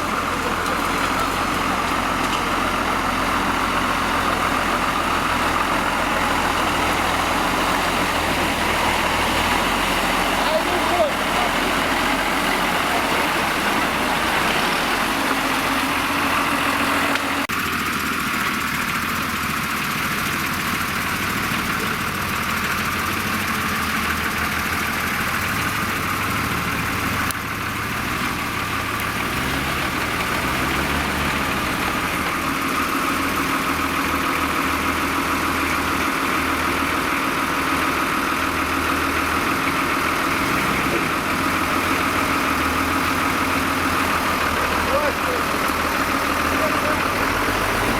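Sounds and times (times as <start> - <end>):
off-road vehicle engine running: 0.0 - 47.9.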